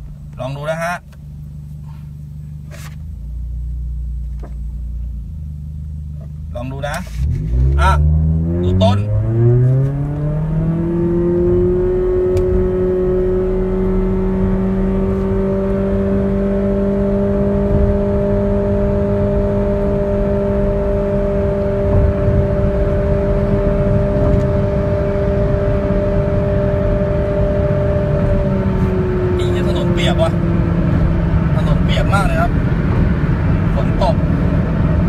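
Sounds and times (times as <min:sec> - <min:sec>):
car engine at full throttle: 0:00.0 - 0:35.0.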